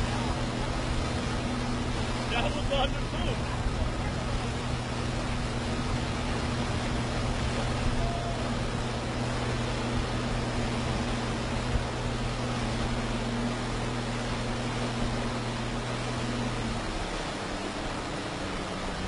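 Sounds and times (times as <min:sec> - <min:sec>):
rush of churned water: 0:00.0 - 0:19.0.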